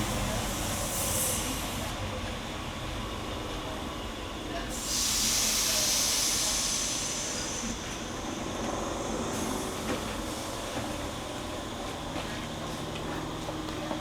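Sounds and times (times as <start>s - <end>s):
train low hum: 0.0s - 14.0s.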